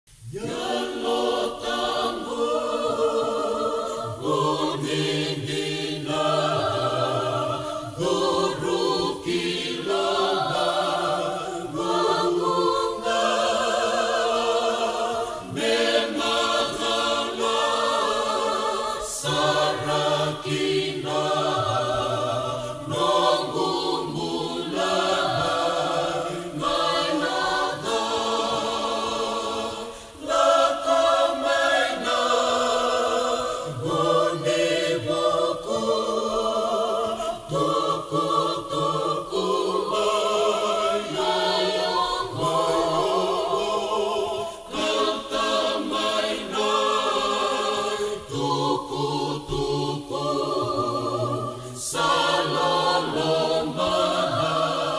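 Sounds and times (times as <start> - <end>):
gospel choir singing a hymn: 0.1 - 54.9.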